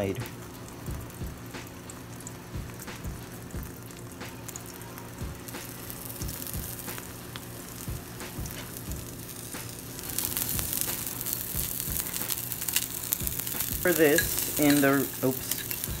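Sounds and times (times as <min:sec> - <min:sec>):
egg sizzling in frying pan: 0:00.0 - 0:16.0.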